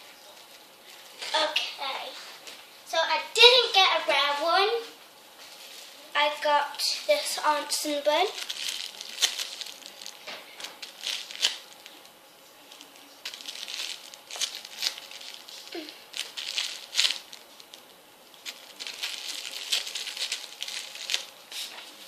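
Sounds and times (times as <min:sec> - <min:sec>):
rustling and crinkling: 0:00.0 - 0:02.8, 0:04.8 - 0:06.1, 0:08.0 - 0:22.0.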